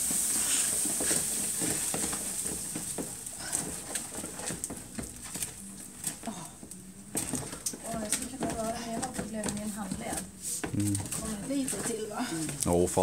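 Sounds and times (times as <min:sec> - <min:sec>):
liquid nitrogen hissing: 0:00.0 - 0:13.0.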